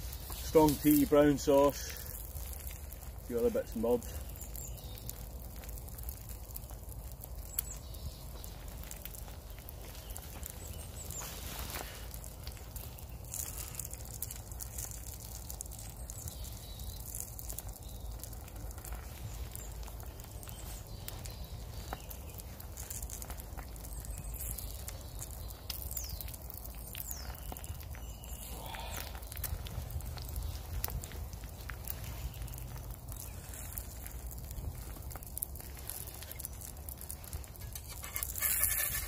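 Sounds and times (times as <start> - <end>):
eggs sizzling in a pan: 0.0 - 39.0
embers crackling and popping: 0.0 - 39.0
faint birds chirping: 0.0 - 39.0.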